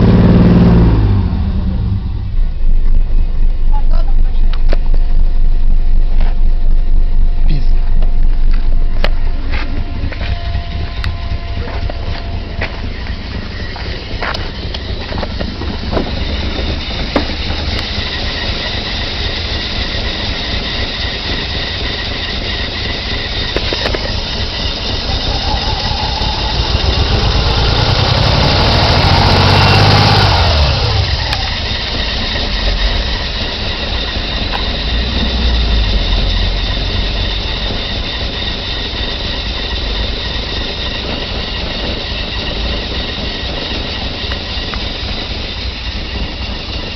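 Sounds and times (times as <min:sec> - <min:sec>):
car engine idling roughly: 0:00.0 - 0:46.9
engine revving: 0:00.0 - 0:46.9.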